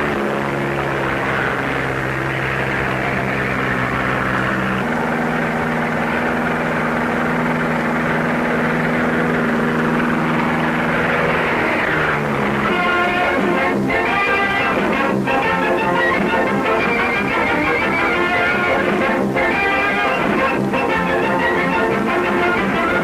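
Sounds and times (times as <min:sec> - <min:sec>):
propeller aircraft engine droning: 0:00.0 - 0:23.0.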